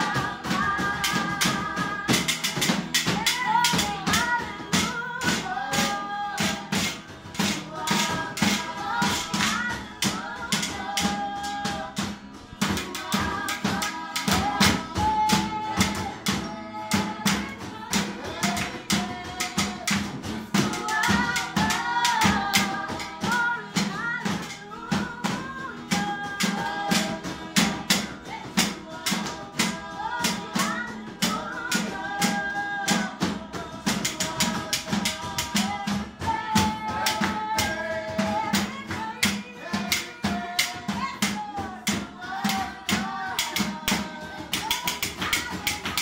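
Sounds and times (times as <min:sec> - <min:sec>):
acoustic guitar strumming: 0:00.0 - 0:46.0
people singing a gospel song: 0:00.0 - 0:46.0.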